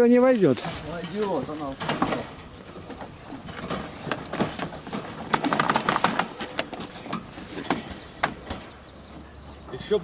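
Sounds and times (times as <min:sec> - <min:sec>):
wire cage rattling and clanking: 0:00.6 - 0:09.1.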